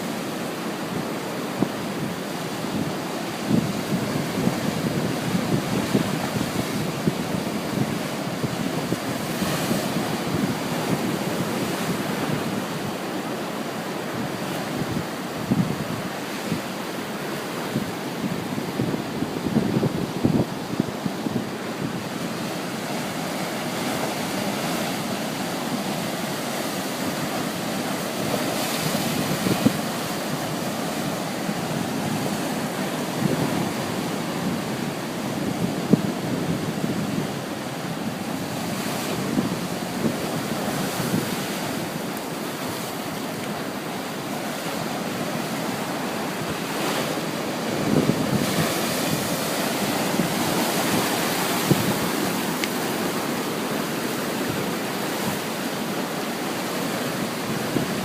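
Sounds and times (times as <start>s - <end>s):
waves breaking: 0.0s - 58.0s
wind buffeting microphone: 0.9s - 58.0s.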